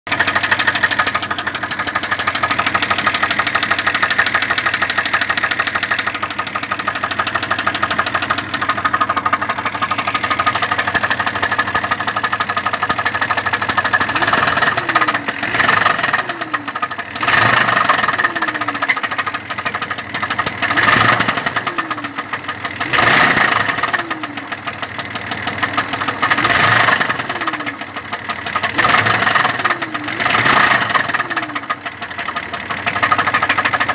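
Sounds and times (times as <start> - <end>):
engine idling with a knock: 0.1 - 33.9
engine revving: 0.1 - 33.9.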